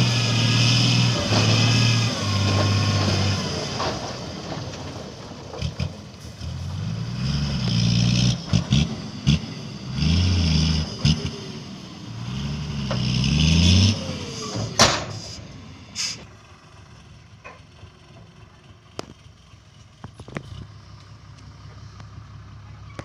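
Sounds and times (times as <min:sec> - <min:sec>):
diesel engine revving and idling: 0:00.0 - 0:23.0.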